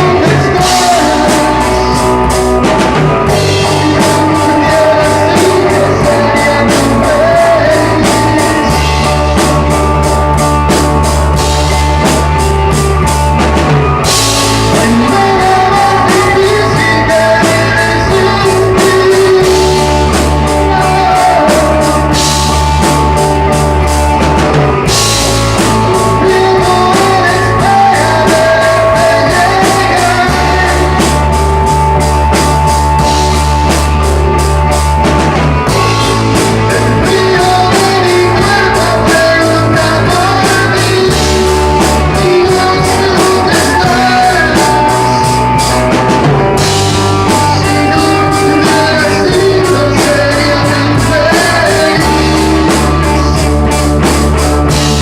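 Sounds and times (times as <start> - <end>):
drum kit: 0.0 - 55.0
guitar playing: 0.0 - 55.0
loud rock music: 0.0 - 55.0.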